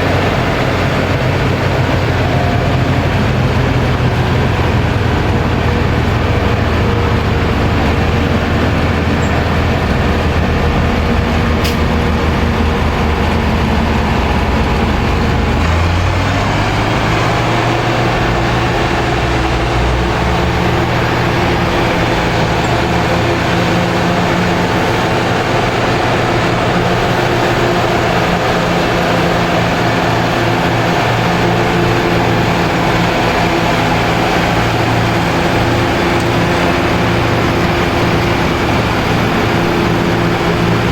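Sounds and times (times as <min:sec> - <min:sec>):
diesel tractor engines under load: 0:00.0 - 0:40.9.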